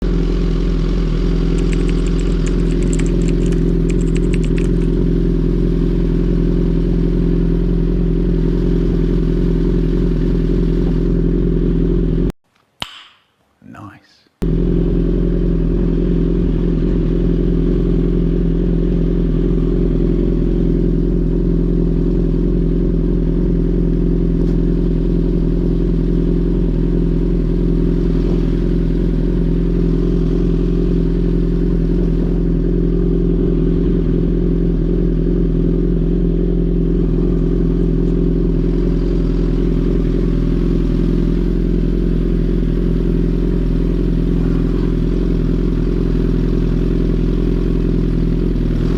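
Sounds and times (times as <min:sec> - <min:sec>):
motorcycle engine idling: 0:00.0 - 0:12.3, 0:14.4 - 0:48.9.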